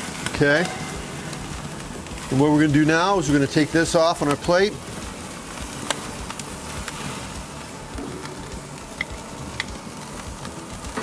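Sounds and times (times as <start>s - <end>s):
squid sizzling on a grill: 0.0s - 11.0s.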